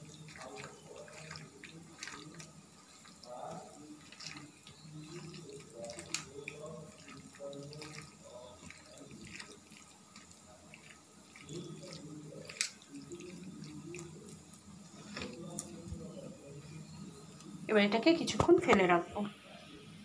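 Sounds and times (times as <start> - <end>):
hands squelching wet food: 0.0 - 17.7.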